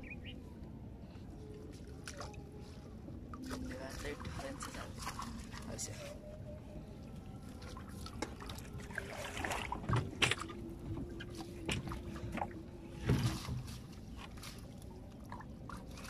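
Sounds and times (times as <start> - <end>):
water splashing and dripping: 1.7 - 6.2, 7.3 - 16.0.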